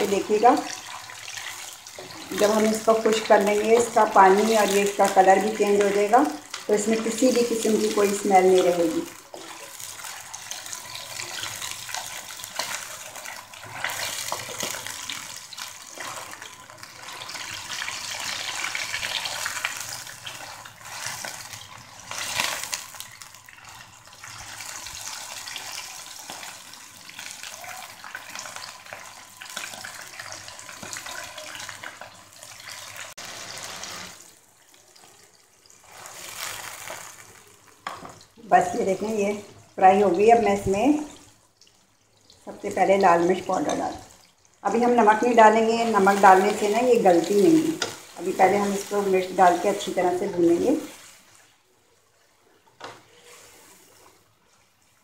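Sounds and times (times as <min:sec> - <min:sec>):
liver sizzling in hot oil: 0:00.0 - 0:52.2
spatula stirring in a wok: 0:00.4 - 0:34.3, 0:35.0 - 0:38.1, 0:46.0 - 0:51.6, 0:53.0 - 0:55.0.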